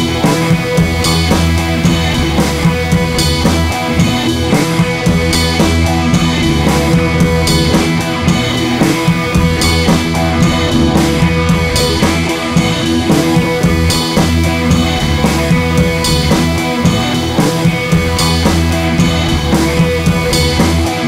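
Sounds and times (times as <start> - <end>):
rock music: 0.0 - 21.0.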